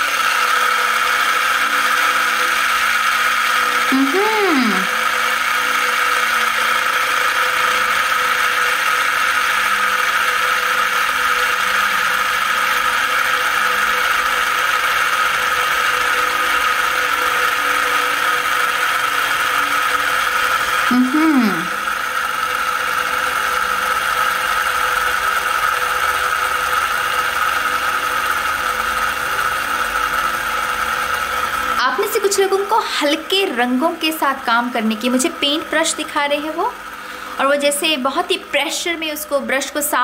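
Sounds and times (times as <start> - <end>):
loud steady hum: 0.0 - 40.0.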